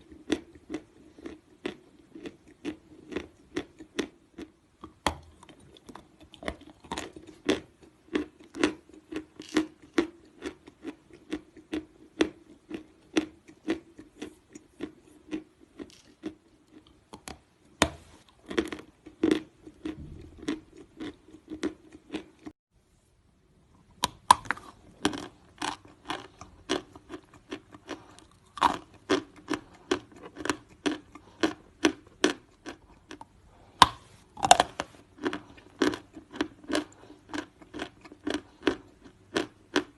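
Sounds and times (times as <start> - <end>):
crunchy chewing of chalk: 0.0 - 22.6, 24.0 - 39.9.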